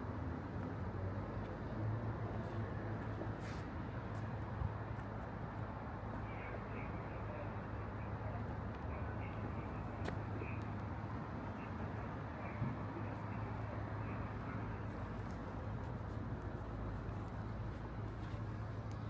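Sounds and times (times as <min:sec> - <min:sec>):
background street rush: 0:00.0 - 0:19.0.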